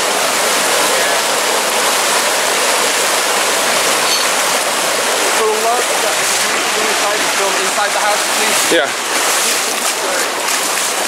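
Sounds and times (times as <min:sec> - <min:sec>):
water gushing: 0:00.0 - 0:11.0.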